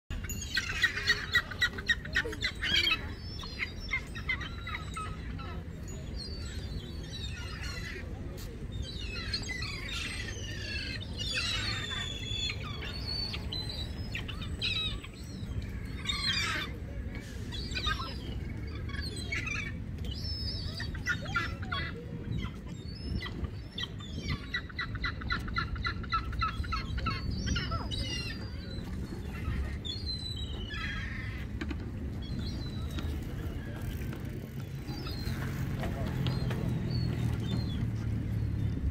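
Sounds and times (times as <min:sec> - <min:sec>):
gulls calling: 0:00.1 - 0:38.9.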